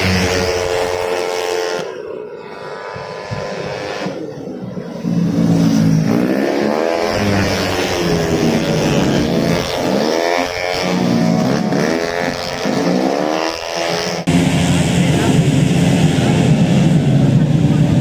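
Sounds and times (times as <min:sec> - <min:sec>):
scooter engines accelerating: 0:00.0 - 0:18.0
steady engine drone: 0:00.0 - 0:18.0.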